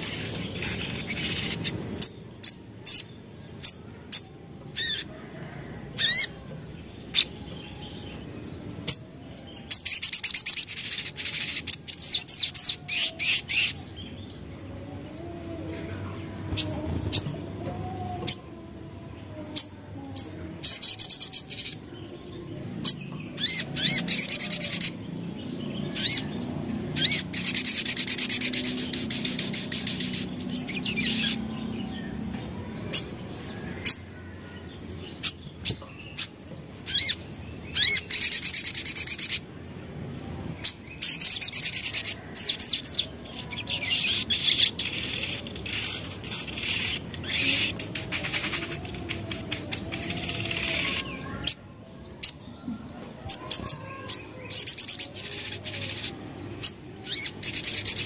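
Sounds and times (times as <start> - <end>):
bird chirping and trilling: 0.0 - 39.6, 40.6 - 58.0.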